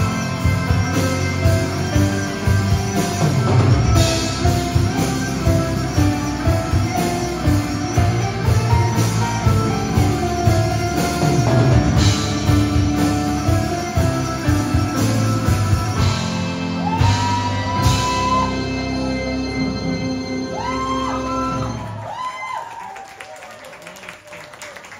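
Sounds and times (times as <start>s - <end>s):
drum kit: 0.0s - 21.6s
electric bass: 0.0s - 21.9s.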